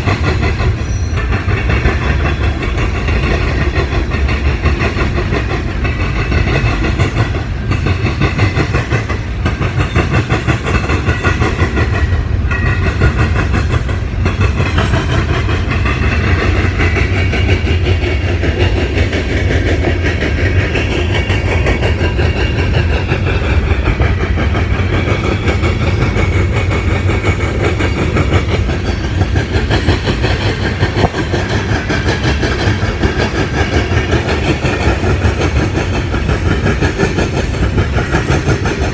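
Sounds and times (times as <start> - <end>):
train wheels rumbling on rails: 0.0 - 38.9
wheels clicking over rail joints: 0.0 - 38.9.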